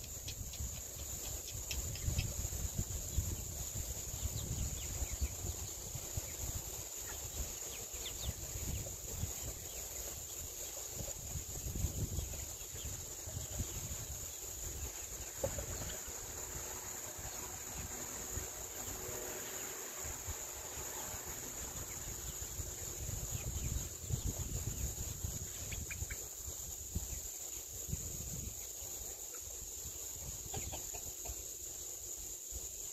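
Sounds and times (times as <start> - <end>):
wind rumble on microphone: 0.0 - 18.6, 20.0 - 29.0
insects buzzing: 0.0 - 32.9.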